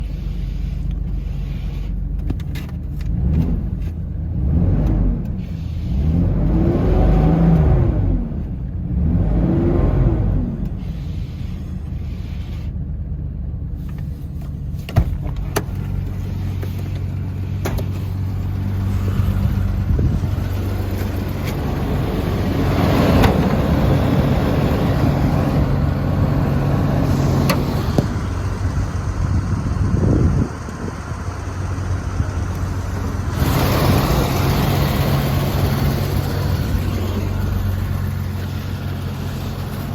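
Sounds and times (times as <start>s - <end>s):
car engine revving: 3.1s - 12.6s, 14.6s - 39.9s.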